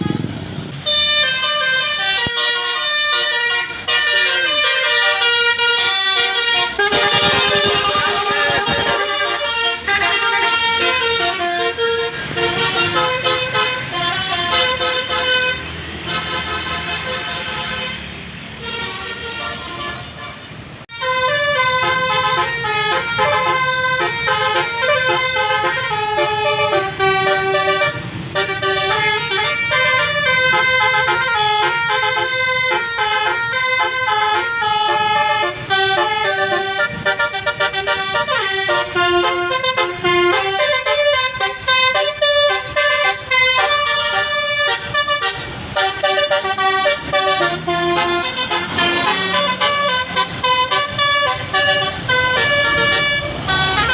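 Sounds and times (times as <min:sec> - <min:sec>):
musical air horn melody: 0:00.0 - 0:53.9.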